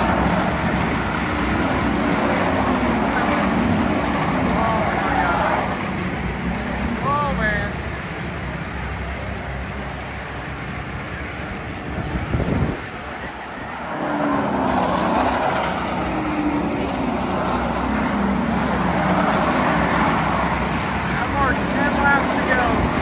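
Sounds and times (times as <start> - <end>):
race cars passing: 0.0 - 23.0.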